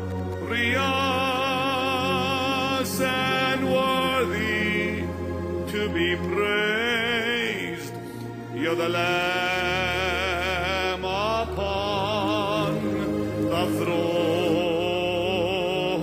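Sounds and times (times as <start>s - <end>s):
slow worship music: 0.0s - 16.0s.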